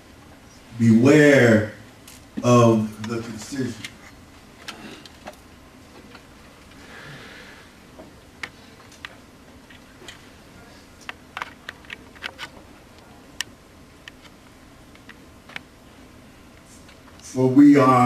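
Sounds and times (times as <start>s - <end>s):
faint room hiss: 0.0s - 18.0s.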